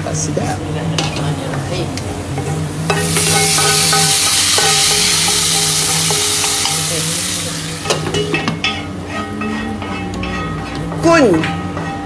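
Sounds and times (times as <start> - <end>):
hot oil sizzling in curry: 1.0 - 10.8.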